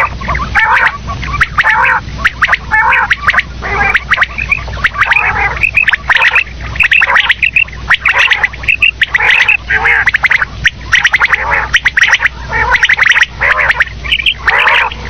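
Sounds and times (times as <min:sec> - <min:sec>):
quail calling: 0:00.0 - 0:15.0.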